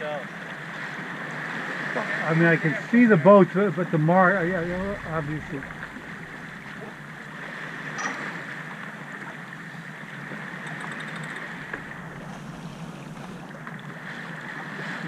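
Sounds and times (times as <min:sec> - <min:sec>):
wind: 0:00.0 - 0:15.0
water rushing: 0:00.4 - 0:15.0.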